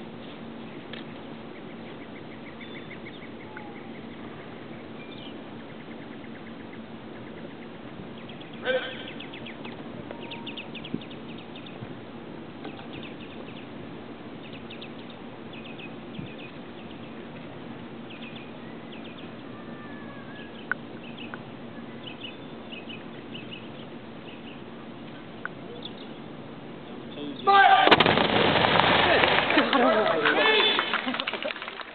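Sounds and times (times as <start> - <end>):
small birds chirping: 0.0 - 27.6
outdoor background noise: 0.0 - 31.9.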